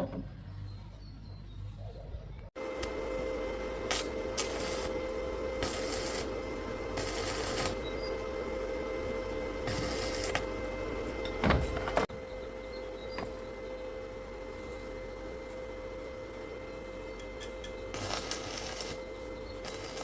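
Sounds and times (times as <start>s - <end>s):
machine drone with whine: 0.0s - 20.0s.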